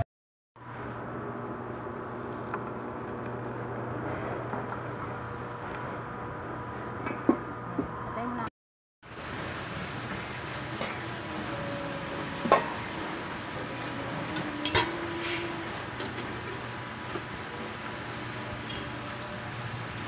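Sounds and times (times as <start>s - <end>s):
machine hum: 0.6s - 8.2s, 9.1s - 20.0s.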